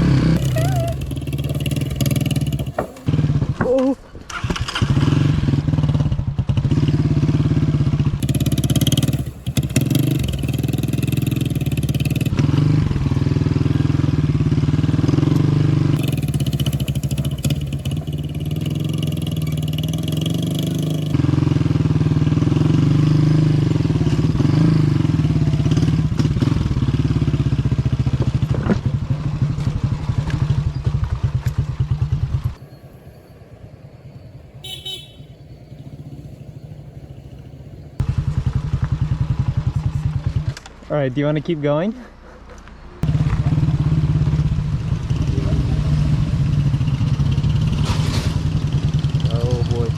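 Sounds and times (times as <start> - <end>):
motorcycle engine running: 0.0 - 40.9, 43.0 - 49.9.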